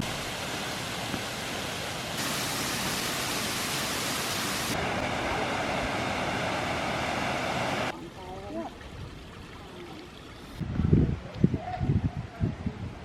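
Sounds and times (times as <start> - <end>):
rushing flowing water: 0.0 - 10.6.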